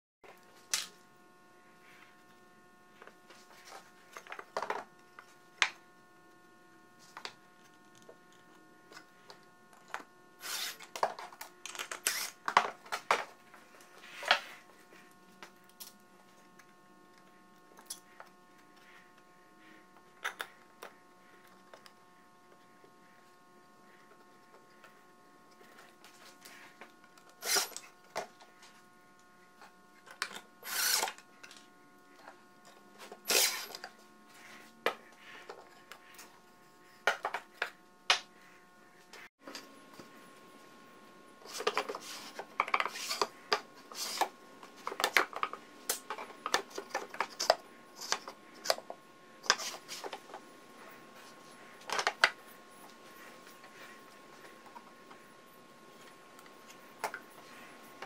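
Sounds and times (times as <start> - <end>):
faint steady hum: 0.2 - 58.0.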